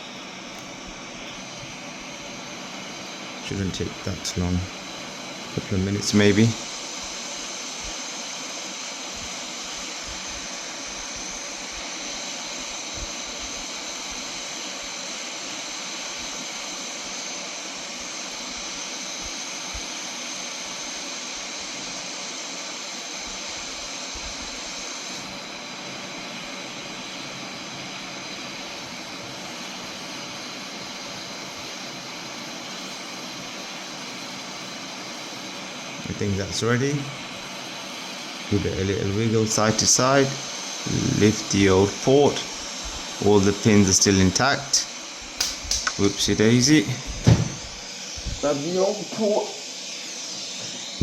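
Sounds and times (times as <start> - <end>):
hot air blower whining: 0.0 - 51.0.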